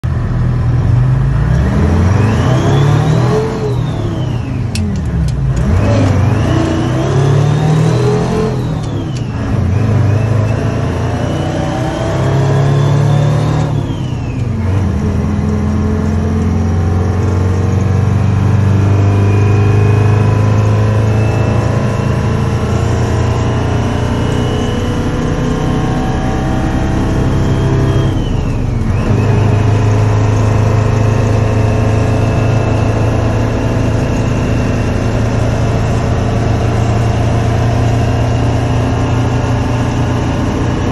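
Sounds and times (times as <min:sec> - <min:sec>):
diesel engine revving through gears: 0:00.0 - 0:40.9.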